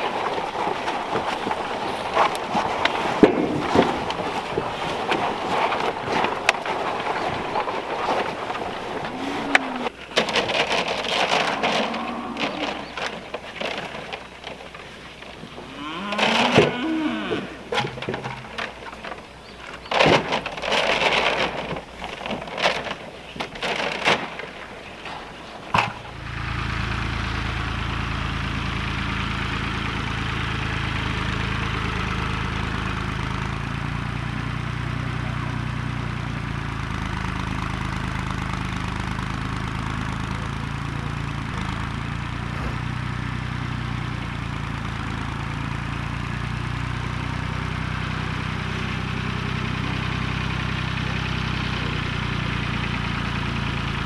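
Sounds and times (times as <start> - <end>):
engine starting and idling: 0.0 - 54.0.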